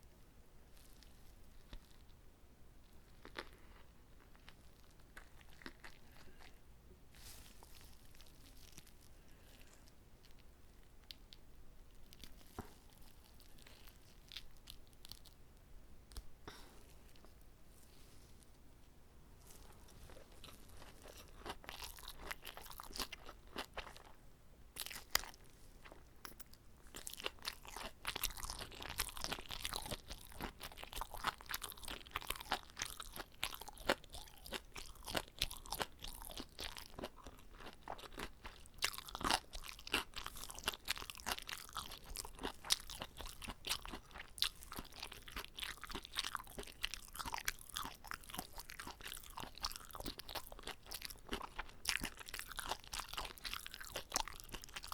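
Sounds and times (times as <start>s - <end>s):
crunchy chewing: 2.8s - 15.4s, 19.4s - 54.9s.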